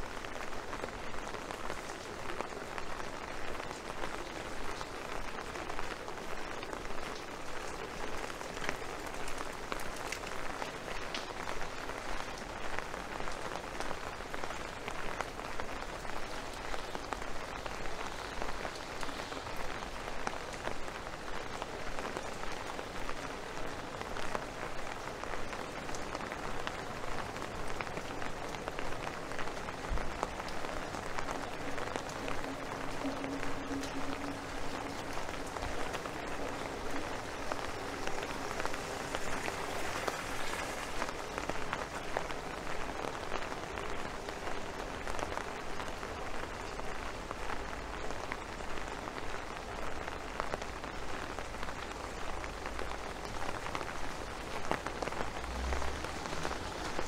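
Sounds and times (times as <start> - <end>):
rain pattering on an umbrella: 0.0 - 57.0.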